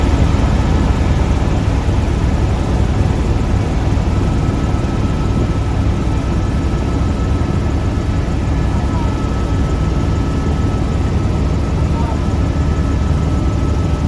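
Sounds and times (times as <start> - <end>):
faint turbine whine: 0.0 - 14.0
helicopter rotor and engine drone: 0.0 - 14.0.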